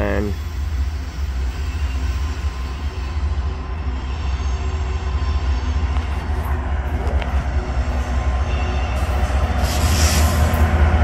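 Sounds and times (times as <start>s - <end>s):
diesel locomotive rumbling: 0.0s - 11.0s.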